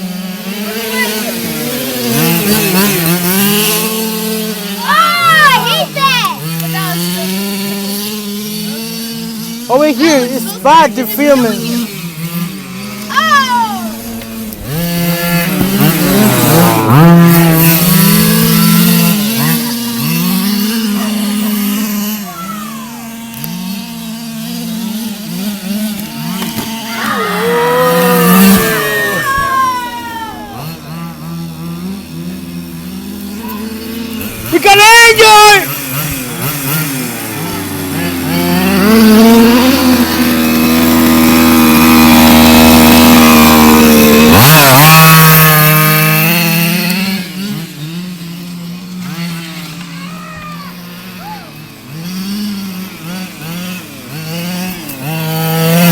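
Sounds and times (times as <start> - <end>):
toy car motors whining: 0.0 - 55.9.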